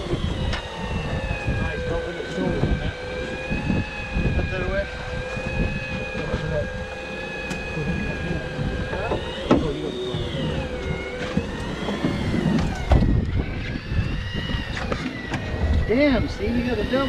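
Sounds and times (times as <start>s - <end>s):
boat motor whining: 0.0s - 17.0s
low rumble: 0.0s - 17.0s.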